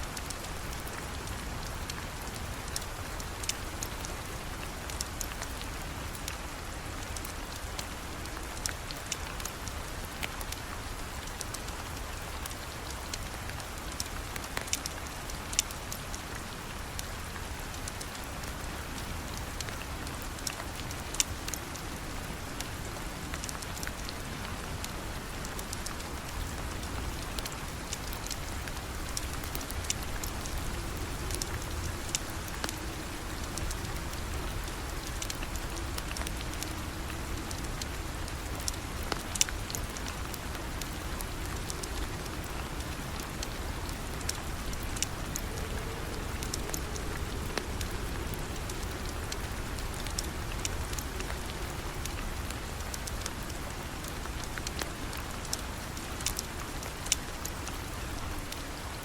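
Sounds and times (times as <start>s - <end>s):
rain falling: 0.0s - 59.0s
sharp ticks and crackles: 0.1s - 59.0s.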